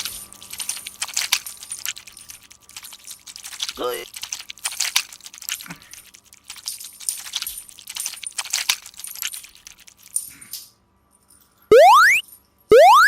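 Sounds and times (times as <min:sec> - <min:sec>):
small hard objects clattering: 0:00.0 - 0:10.6.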